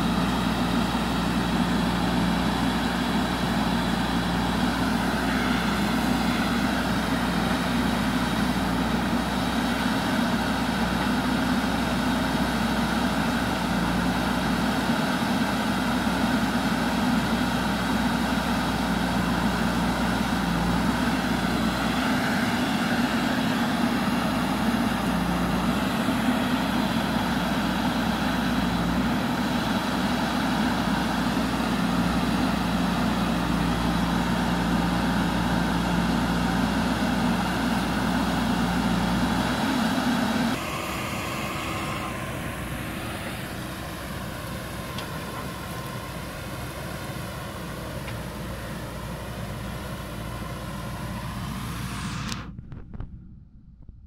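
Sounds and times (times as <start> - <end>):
diesel engine running under load: 0.0 - 53.6.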